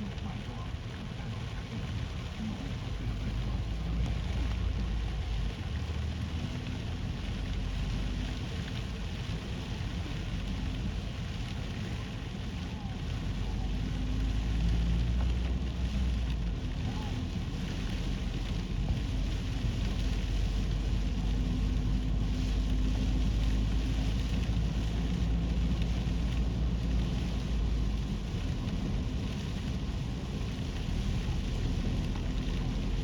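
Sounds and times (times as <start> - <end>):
gusting wind rumble: 0.0 - 33.0
wind-driven rain hiss: 0.0 - 33.0.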